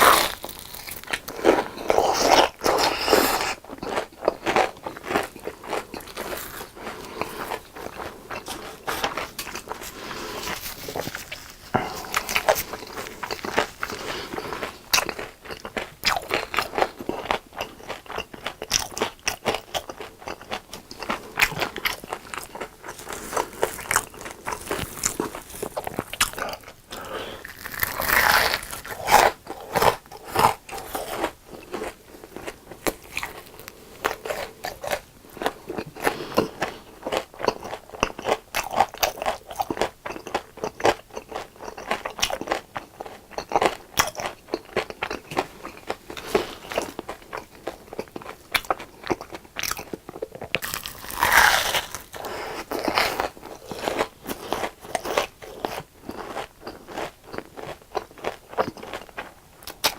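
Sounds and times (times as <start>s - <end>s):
chewing crunchy fried food: 0.0s - 59.9s.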